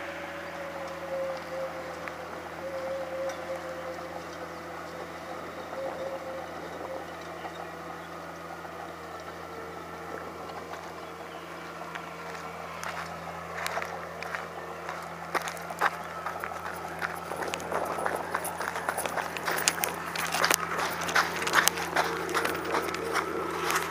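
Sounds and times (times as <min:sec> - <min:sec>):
bulldozer diesel engine running: 0:00.0 - 0:23.9.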